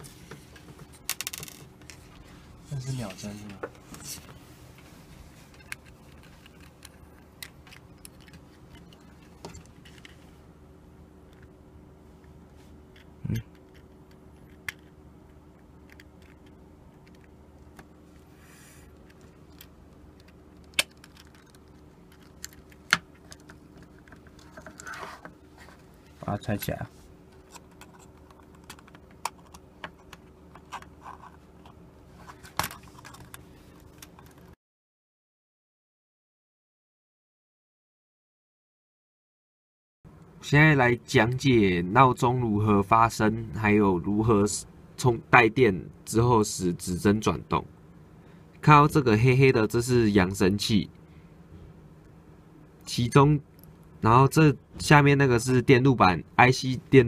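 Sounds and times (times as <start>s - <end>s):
low steady hum: 0.0s - 34.6s, 40.1s - 57.0s.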